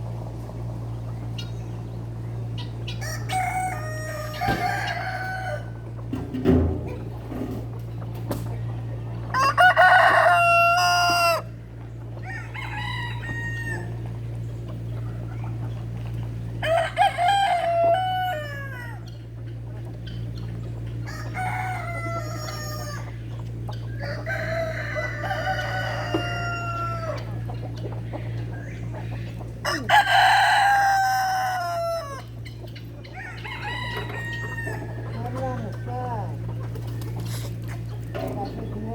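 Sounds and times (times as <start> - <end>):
steady low hum: 0.0 - 38.9
roosters crowing: 0.5 - 38.9.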